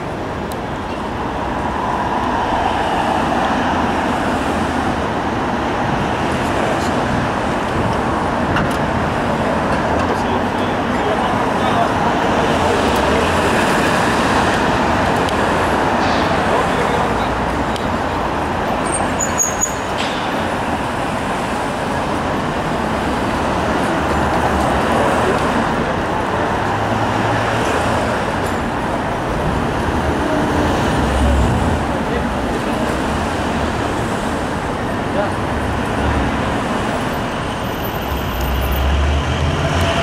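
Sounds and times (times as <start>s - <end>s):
road traffic noise: 0.0s - 40.0s.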